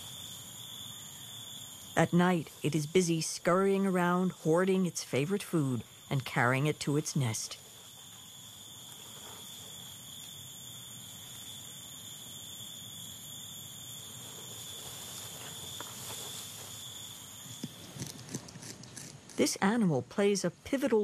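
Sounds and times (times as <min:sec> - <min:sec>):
night insects trilling: 0:00.0 - 0:21.0.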